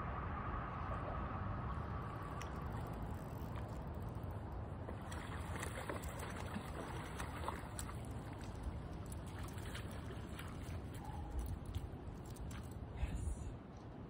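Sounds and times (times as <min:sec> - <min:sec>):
river water flowing: 0:01.0 - 0:13.0.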